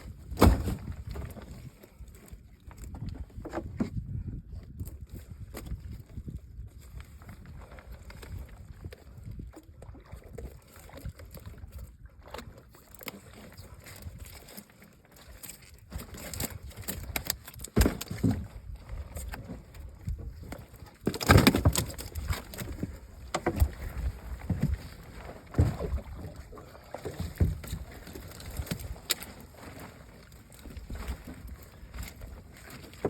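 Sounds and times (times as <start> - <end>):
knocks and clatter in boat: 0.0 - 33.0
water and boat noise: 0.0 - 33.0.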